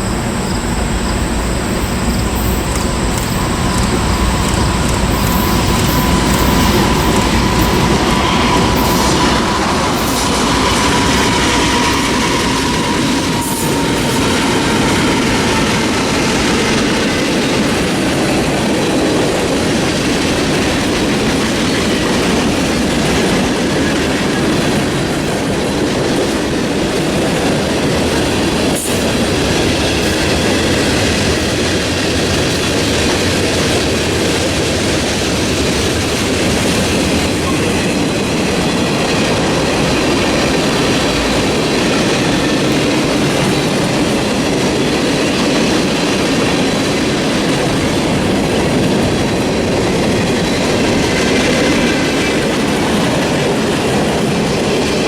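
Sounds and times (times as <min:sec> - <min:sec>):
freight train cars rolling past: 0:00.0 - 0:55.0.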